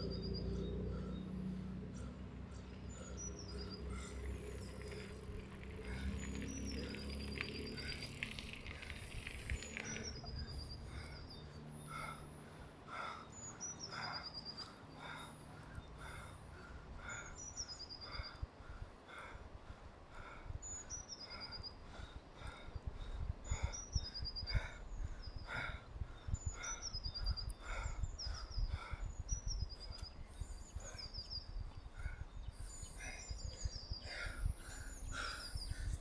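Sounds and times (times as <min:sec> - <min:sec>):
soft bird chirping: 0:00.0 - 0:19.2, 0:20.5 - 0:36.0
low outdoor rumble: 0:00.0 - 0:36.0
songbird singing: 0:00.0 - 0:36.0.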